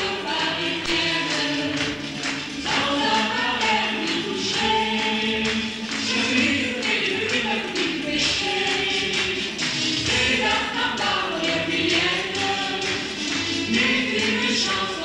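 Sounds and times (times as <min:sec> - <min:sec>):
cast and chorus singing: 0:00.0 - 0:15.0.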